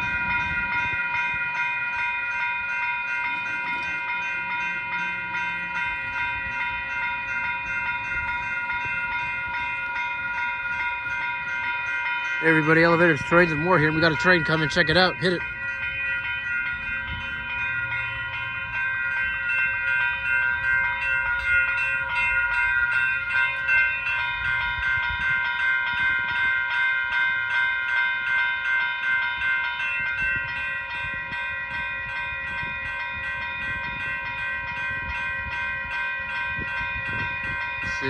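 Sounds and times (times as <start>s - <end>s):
railroad crossing bells ringing: 0.0s - 38.0s.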